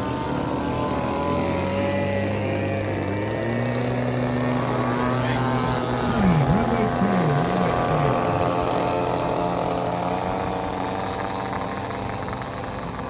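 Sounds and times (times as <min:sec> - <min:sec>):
model airplane propeller engines: 0:00.0 - 0:13.0.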